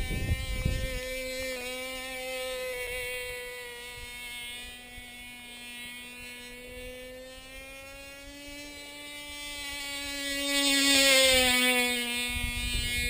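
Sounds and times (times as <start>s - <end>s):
model plane engine buzzing: 0.0s - 13.0s.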